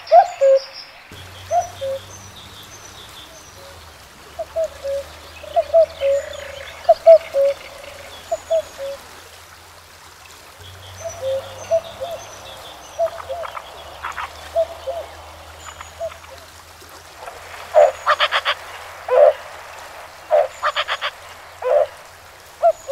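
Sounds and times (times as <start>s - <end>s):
river water rushing: 0.0s - 22.9s
short croaking calls: 1.2s - 9.0s, 10.8s - 16.5s, 17.7s - 22.9s.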